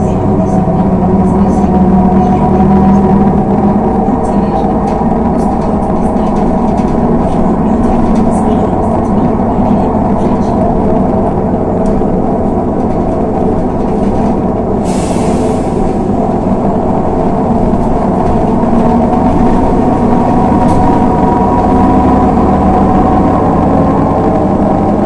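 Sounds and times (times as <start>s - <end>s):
bus engine and road drone: 0.0s - 25.0s.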